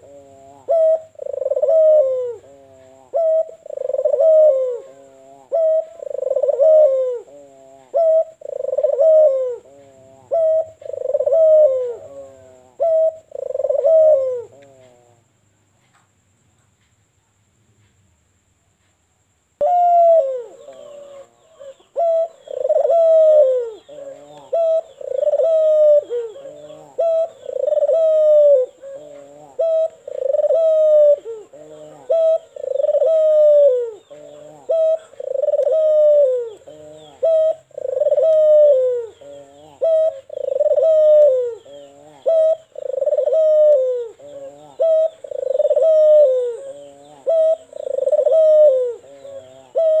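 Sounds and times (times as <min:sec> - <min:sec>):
dove cooing: 0:00.0 - 0:15.3, 0:19.6 - 0:50.0.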